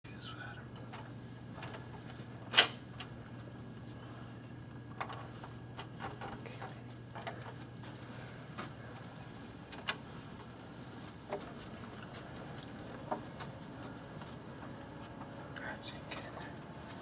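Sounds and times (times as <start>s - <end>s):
steady low hum: 0.1s - 17.0s.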